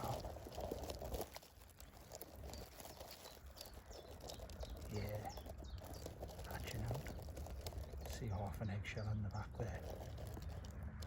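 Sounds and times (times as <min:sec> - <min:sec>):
leaves and twigs rustling: 0:00.0 - 0:11.0.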